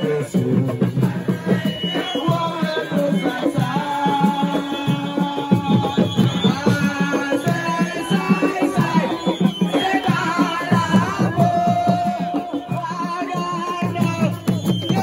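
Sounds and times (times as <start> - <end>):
fast hand drumming: 0.0 - 15.0.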